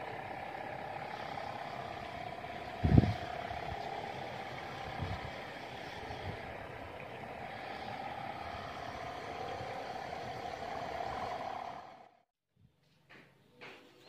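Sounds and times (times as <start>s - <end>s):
wind buffeting microphone: 0.0s - 11.6s
kite hummers droning: 0.0s - 12.2s.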